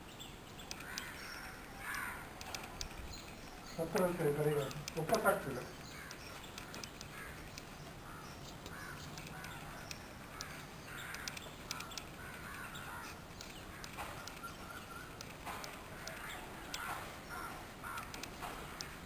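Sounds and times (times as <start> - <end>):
faint bird calls: 0.0 - 19.0
small high clicks: 0.6 - 19.0.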